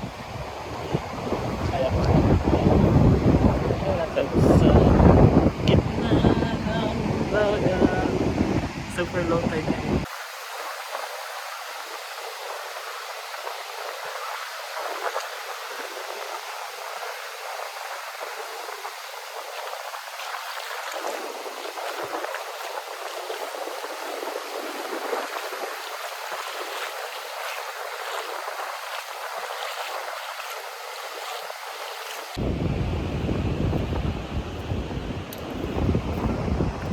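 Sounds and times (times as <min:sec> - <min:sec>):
small waves washing onto beach: 0:00.0 - 0:36.9.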